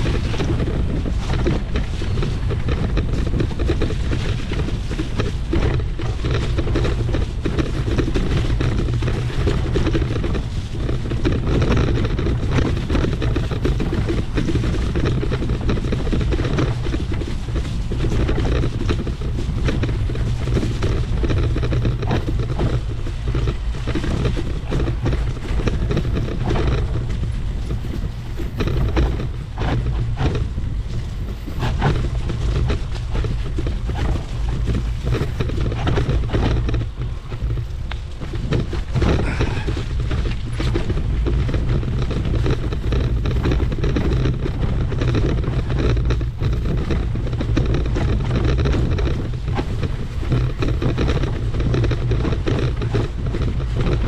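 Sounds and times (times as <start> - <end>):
bike knocking and rattling: 0.0 - 54.0
wind rumble on microphone: 0.0 - 54.0.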